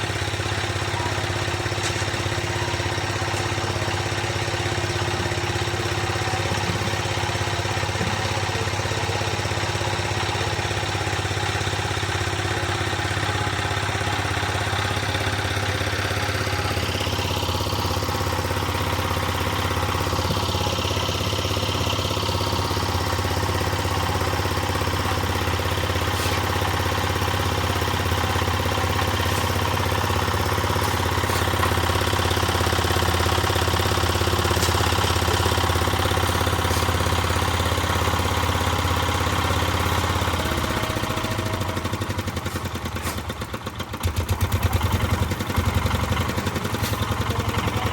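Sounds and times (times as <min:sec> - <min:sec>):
concrete mixer engine drone: 0:00.0 - 0:47.9.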